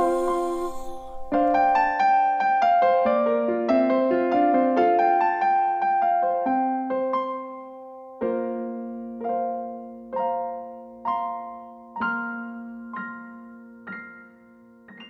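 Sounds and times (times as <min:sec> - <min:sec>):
solo piano: 0:00.0 - 0:15.0.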